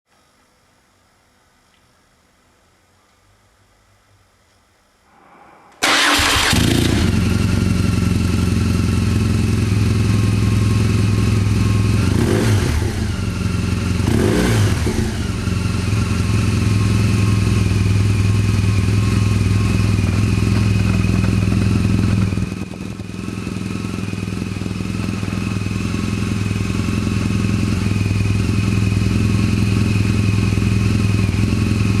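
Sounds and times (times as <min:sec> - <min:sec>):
motorcycle engine starting and idling: 0:05.8 - 0:32.0
motorcycle throttle blips: 0:05.8 - 0:32.0.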